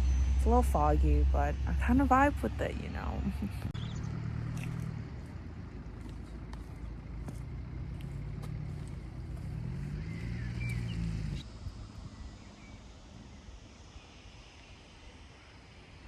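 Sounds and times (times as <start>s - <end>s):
motor vehicle engine hum: 0.0s - 14.2s.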